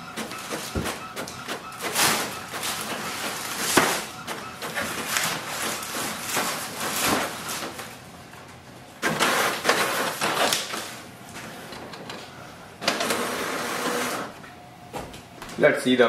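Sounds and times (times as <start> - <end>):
inkjet printer printing: 0.0 - 8.1, 9.0 - 14.4.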